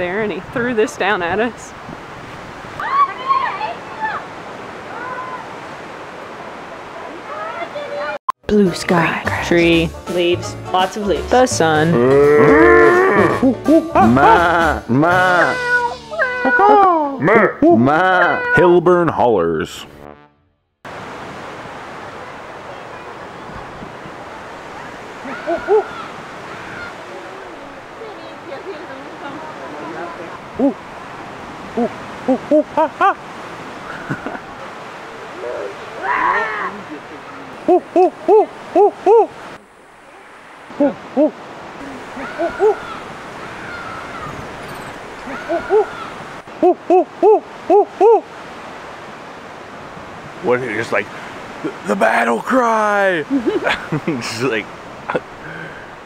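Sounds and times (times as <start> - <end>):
surf: 0.0 - 19.6, 20.9 - 56.0
wind: 0.0 - 56.0.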